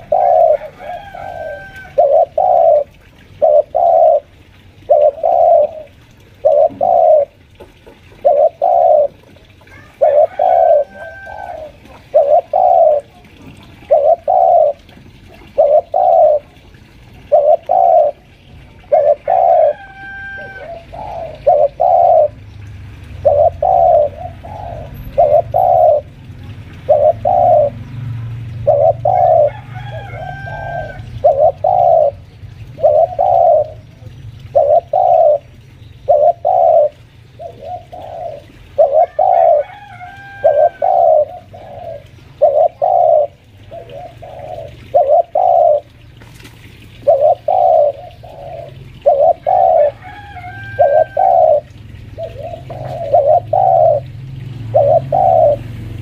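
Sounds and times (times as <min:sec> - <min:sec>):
dove cooing: 0:00.0 - 0:46.1, 0:46.8 - 0:56.0.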